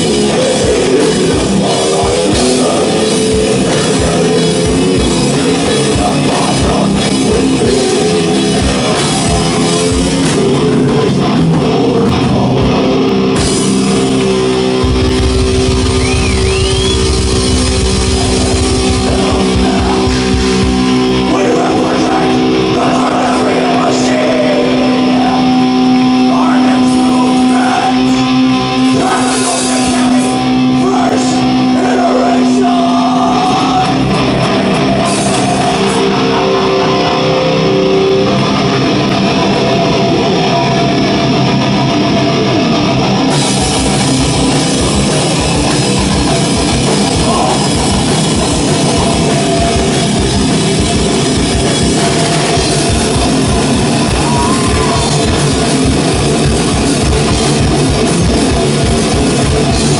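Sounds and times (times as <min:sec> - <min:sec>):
distorted electric guitars: 0:00.0 - 0:59.9
drum kit playing fast beat: 0:00.0 - 0:59.9.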